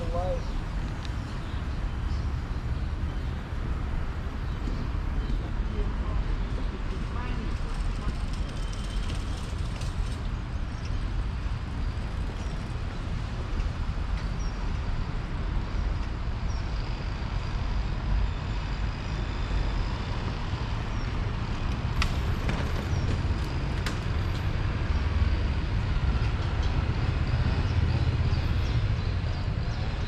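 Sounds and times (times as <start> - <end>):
city street traffic rumble: 0.0 - 30.0.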